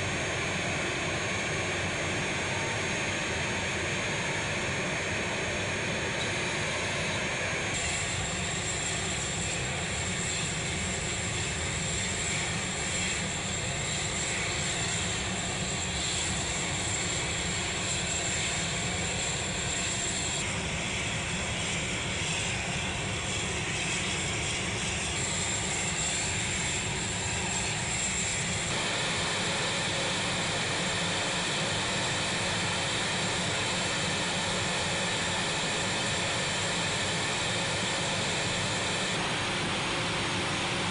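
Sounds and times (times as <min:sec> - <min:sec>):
jet engines running with high whine: 0:00.0 - 0:40.9.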